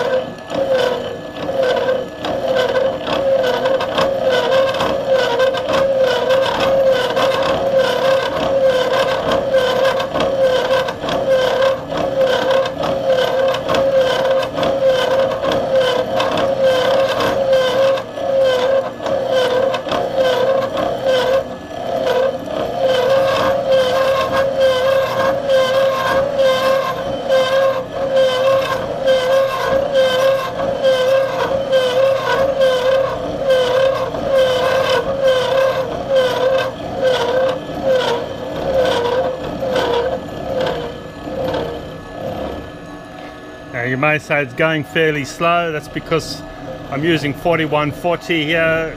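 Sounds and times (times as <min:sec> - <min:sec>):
milling cutter cutting steel: 0:00.0 - 0:42.9, 0:43.9 - 0:48.9.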